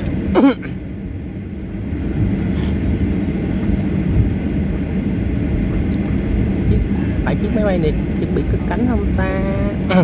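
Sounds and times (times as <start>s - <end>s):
airliner engines rumbling: 0.0s - 10.0s.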